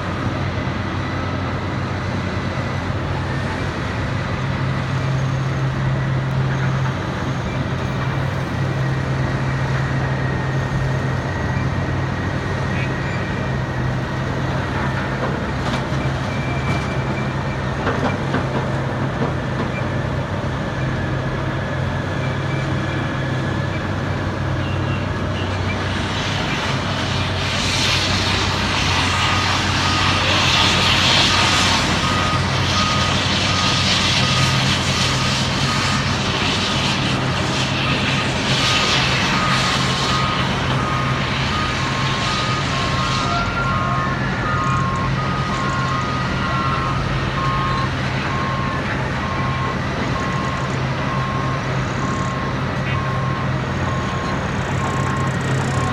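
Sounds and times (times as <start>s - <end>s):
truck engine humming: 0.0s - 55.9s
reversing alarm beeping: 0.1s - 55.9s.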